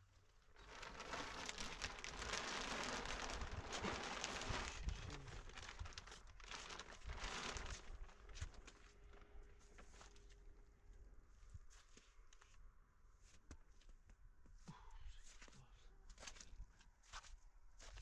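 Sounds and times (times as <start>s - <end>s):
rustling and crinkling: 0.0s - 18.0s.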